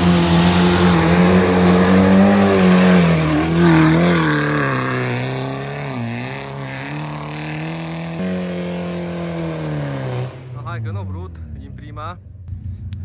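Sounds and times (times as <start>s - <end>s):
car engine pulling under load: 0.0s - 11.5s.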